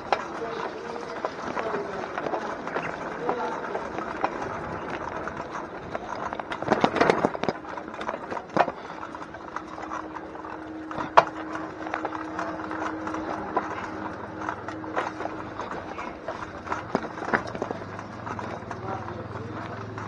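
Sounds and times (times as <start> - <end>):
faint steady hum: 0.0 - 18.8
bicycle rattling on rough ground: 0.0 - 20.0.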